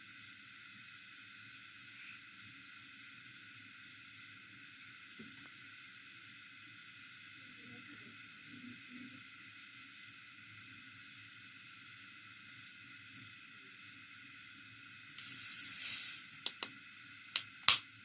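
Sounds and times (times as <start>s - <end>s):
cricket chirp pulsing: 0.0s - 18.0s
faint insect chorus: 0.0s - 18.0s.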